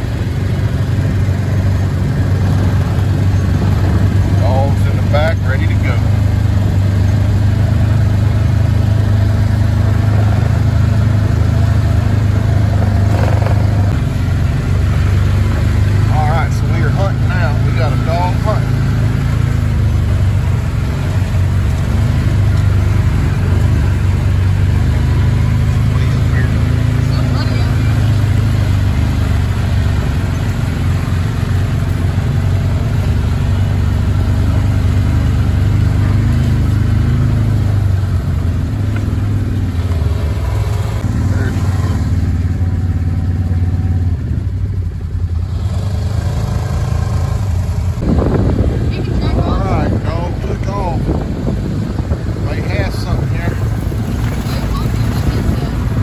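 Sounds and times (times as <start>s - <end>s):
noisy rush: 0.0s - 56.0s
utility vehicle engine droning: 0.0s - 56.0s.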